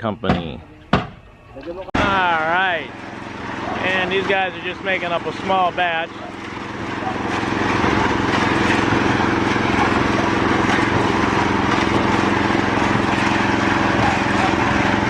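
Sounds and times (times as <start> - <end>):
concrete mixer running: 1.6 - 15.0.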